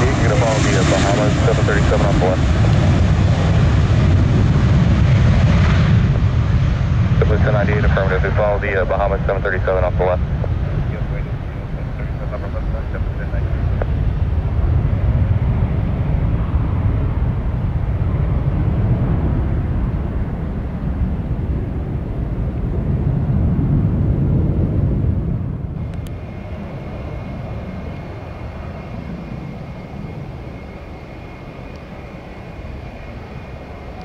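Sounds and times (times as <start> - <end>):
jet engine high whine: 0.0 - 34.0
jet engines rumbling: 0.0 - 34.0.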